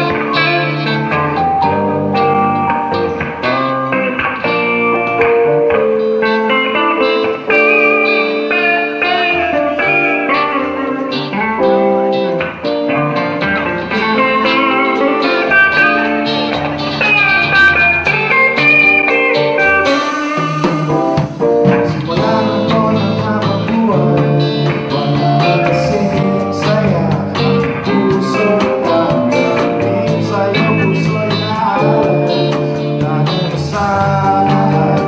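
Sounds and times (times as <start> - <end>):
bass line: 0.0 - 35.0
electric guitar picked melody: 0.0 - 35.0
live band playing instrumental: 0.0 - 35.0.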